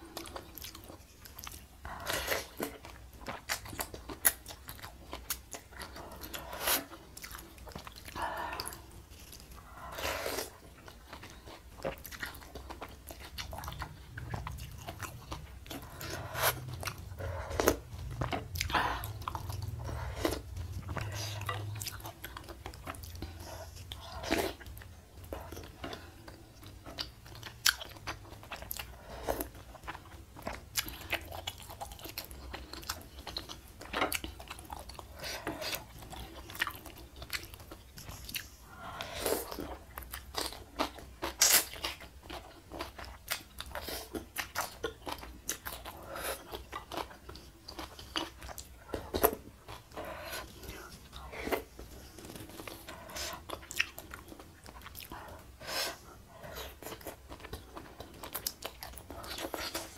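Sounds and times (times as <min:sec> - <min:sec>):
chewing with crunching: 0:00.0 - 0:59.9.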